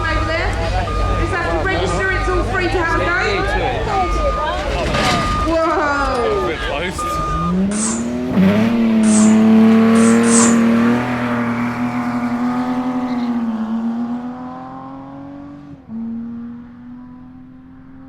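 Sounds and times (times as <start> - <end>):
car engine revving high: 0.0 - 18.0.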